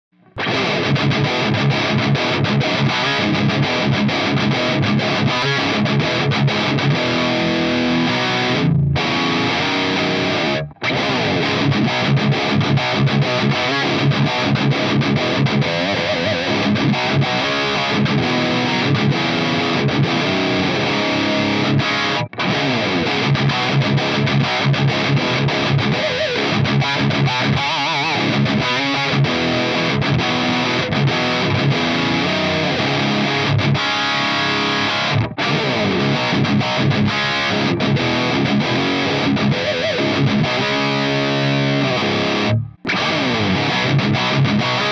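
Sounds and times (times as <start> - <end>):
distorted electric guitar riffing: 0.2 - 44.9.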